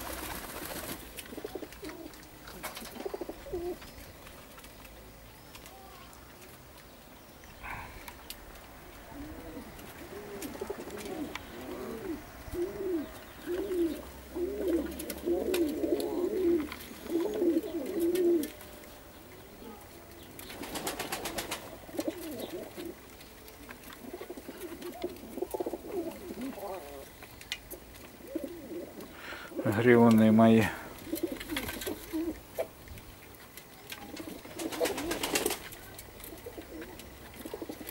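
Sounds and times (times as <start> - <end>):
pigeons cooing: 0.0 - 4.8, 5.6 - 37.9.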